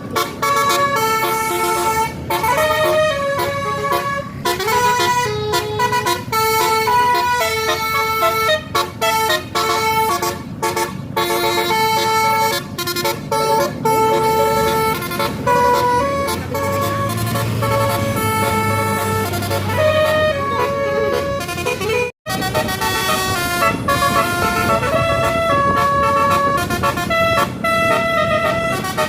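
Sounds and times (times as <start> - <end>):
multi-tone bus air horn melody: 0.0 - 29.0.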